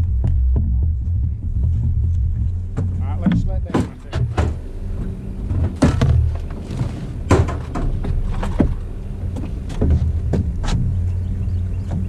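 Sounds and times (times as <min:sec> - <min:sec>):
boat motor humming: 0:00.0 - 0:12.0
gear knocking on boat: 0:00.0 - 0:12.0.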